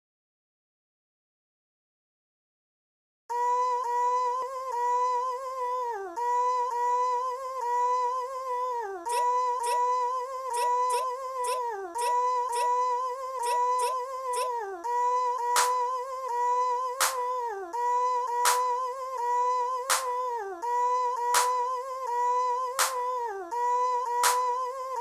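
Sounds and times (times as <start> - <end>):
high voice-like humming: 3.3 - 25.0.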